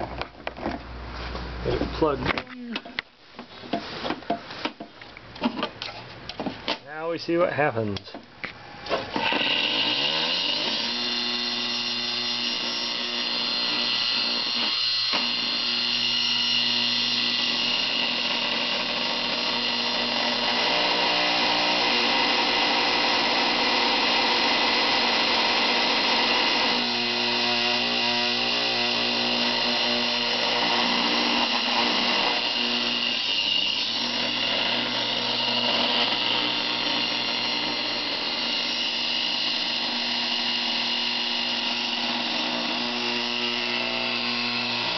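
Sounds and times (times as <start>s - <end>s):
hard drive whining and rattling: 8.5s - 44.9s.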